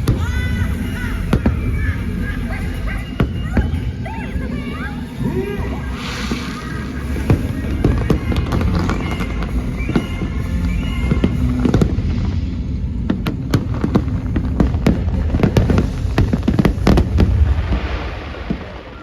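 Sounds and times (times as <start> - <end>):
show music: 0.0 - 18.6
fireworks cracking and banging: 0.0 - 19.0
low rumble: 0.0 - 19.0.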